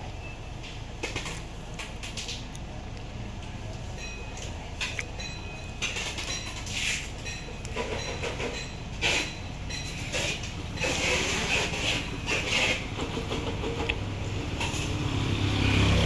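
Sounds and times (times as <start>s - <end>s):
low engine hum: 0.0s - 16.0s
vehicles passing with hiss: 0.0s - 16.0s.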